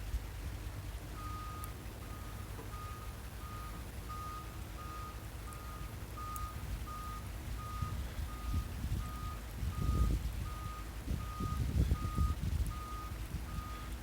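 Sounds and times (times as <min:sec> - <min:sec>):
diesel engine rumble: 0:00.0 - 0:14.0
backup alarm beeping: 0:01.2 - 0:13.9.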